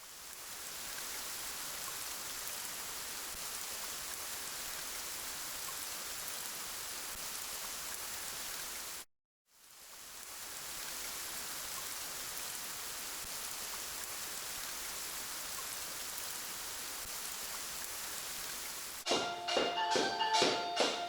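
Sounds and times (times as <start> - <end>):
steady rain hiss: 0.0 - 19.1.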